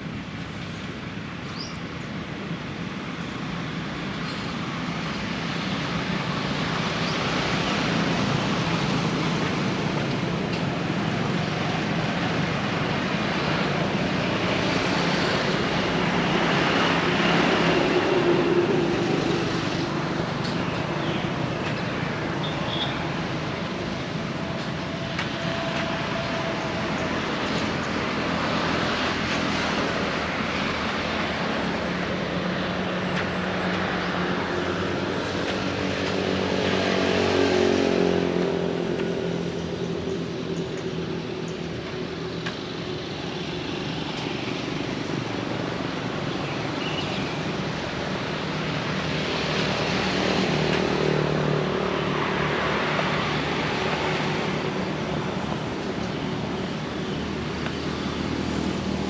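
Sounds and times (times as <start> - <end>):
traffic passing: 0.0 - 59.0.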